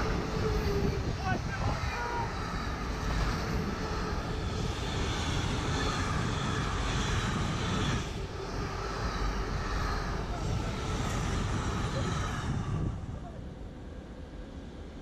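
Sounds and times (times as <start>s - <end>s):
train wheels running on rails: 0.0s - 12.9s.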